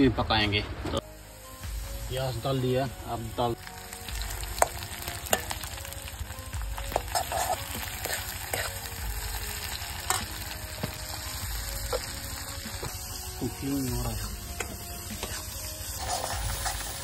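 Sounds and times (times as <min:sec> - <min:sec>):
food sizzling in hot oil: 0:01.0 - 0:17.0.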